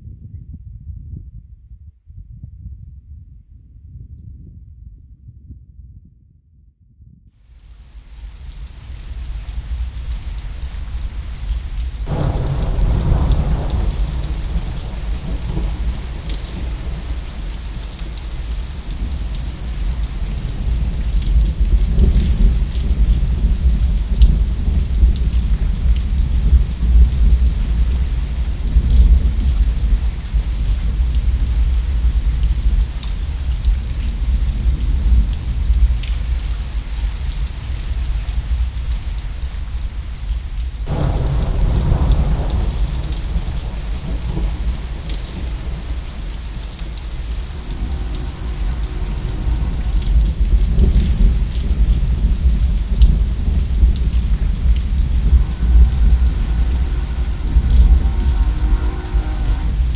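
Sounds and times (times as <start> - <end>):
rain falling: 7.4 - 59.9
thunder rumble: 7.4 - 59.9.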